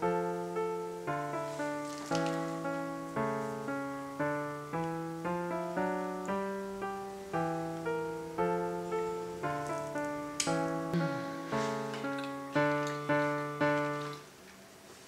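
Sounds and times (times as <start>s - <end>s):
piano chords: 0.0s - 14.4s.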